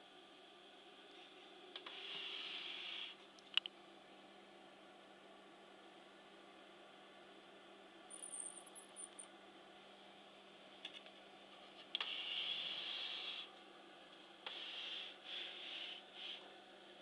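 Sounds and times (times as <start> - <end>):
steady faint hum: 0.0 - 17.0.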